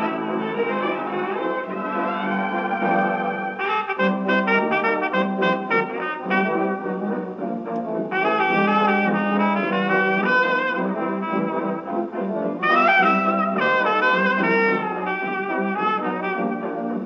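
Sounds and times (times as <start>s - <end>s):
held bass notes: 0.0s - 17.0s
old jazz dance band record: 0.0s - 17.0s.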